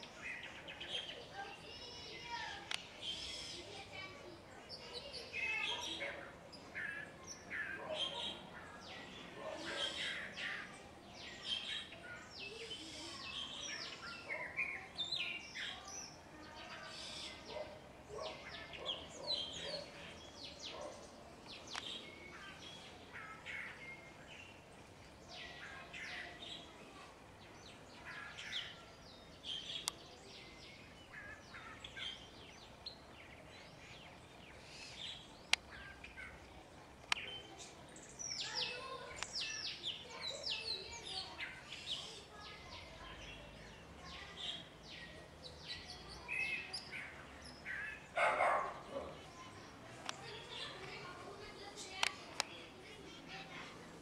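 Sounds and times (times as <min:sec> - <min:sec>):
mockingbird singing: 0:00.0 - 0:26.7, 0:27.4 - 0:53.7.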